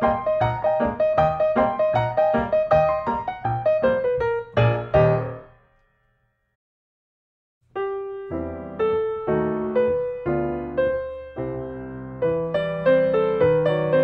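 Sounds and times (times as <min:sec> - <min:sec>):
gentle piano music: 0:00.0 - 0:05.6, 0:07.7 - 0:14.0.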